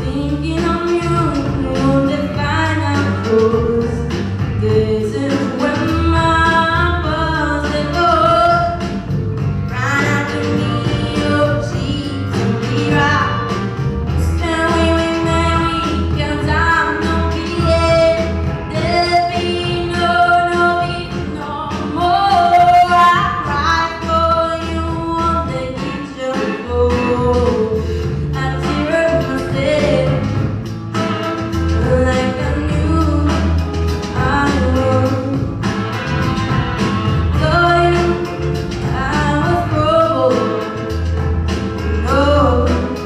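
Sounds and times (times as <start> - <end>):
song with voices and beat: 0.0 - 43.0.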